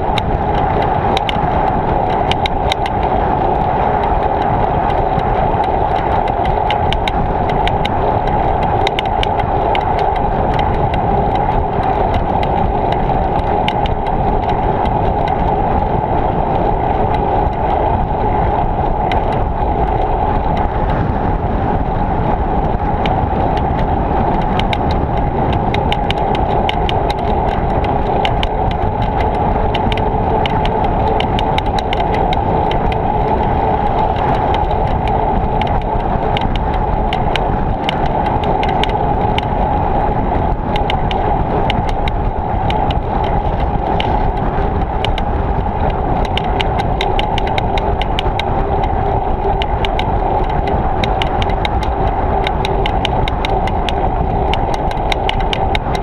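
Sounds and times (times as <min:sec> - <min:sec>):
sharp ticks: 0:00.0 - 0:21.0, 0:22.6 - 0:56.0
wind and rolling rush: 0:00.0 - 0:56.0.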